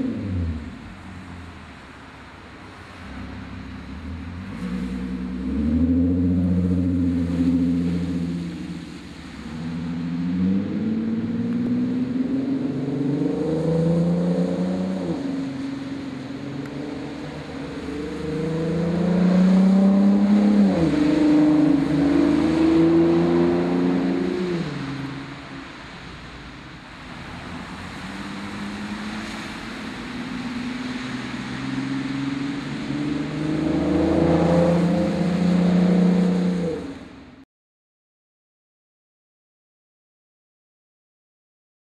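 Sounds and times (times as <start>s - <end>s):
car engine accelerating: 0.0s - 25.9s, 27.0s - 37.2s.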